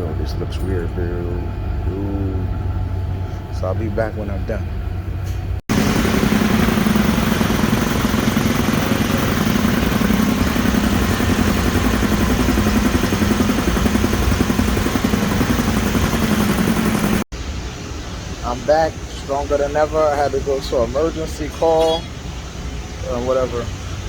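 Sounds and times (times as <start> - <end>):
engine-like mechanical hum: 0.0 - 24.0.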